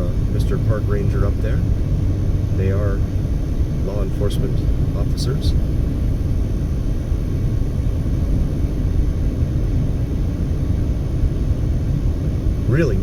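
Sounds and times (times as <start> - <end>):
car driving rumble: 0.0 - 13.0
road noise: 0.0 - 13.0.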